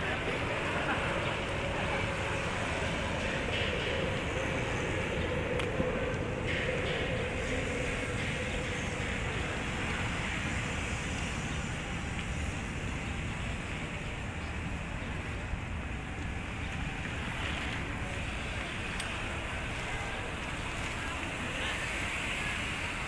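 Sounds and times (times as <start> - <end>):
road ambience: 0.0 - 23.0
wind rumble on microphone: 0.0 - 23.0.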